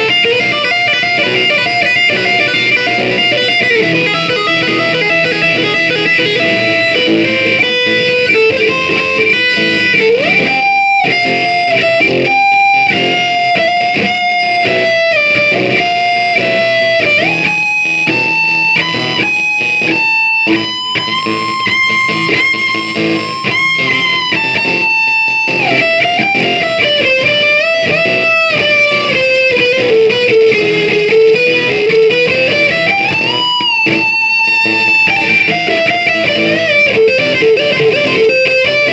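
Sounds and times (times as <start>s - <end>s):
electric guitar melody: 0.0s - 38.9s.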